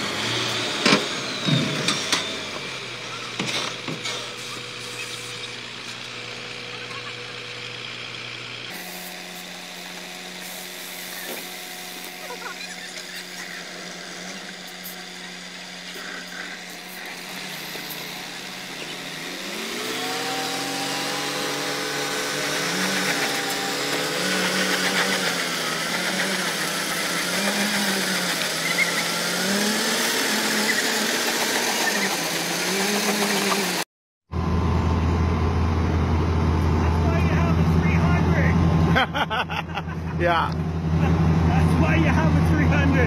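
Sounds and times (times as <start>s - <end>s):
diesel truck engine revving: 0.0s - 43.0s
excavator engine humming: 0.0s - 43.0s.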